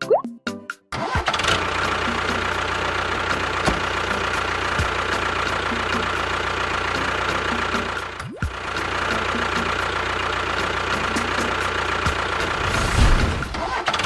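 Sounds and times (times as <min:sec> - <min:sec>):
small engine running: 0:01.0 - 0:14.0.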